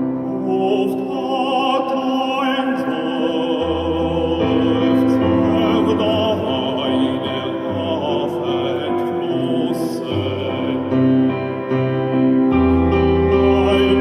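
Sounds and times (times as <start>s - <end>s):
operatic baritone singing: 0.0s - 14.0s
piano accompaniment: 0.0s - 14.0s.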